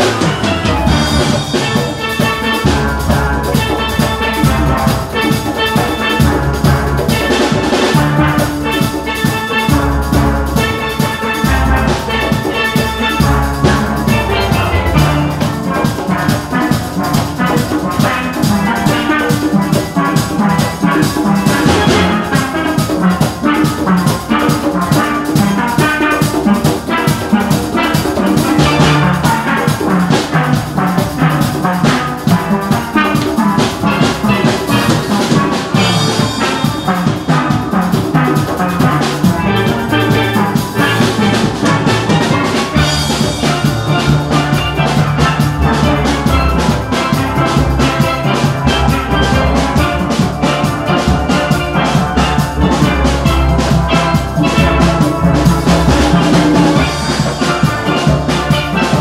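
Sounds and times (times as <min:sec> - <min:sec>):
drums: 0:00.0 - 0:59.0
steel pans playing: 0:00.0 - 0:59.0.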